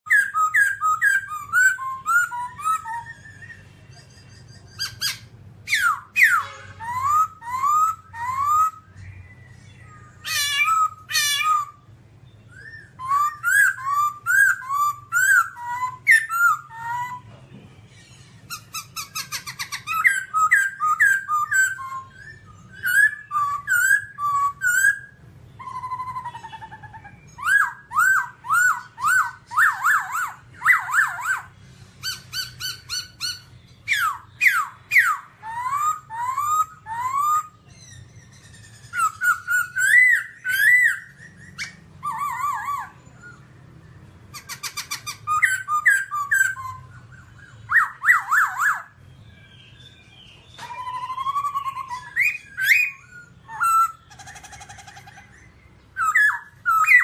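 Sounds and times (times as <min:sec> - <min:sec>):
bird singing whistled phrases: 0:00.1 - 0:17.3, 0:18.5 - 0:43.6, 0:44.3 - 0:57.0.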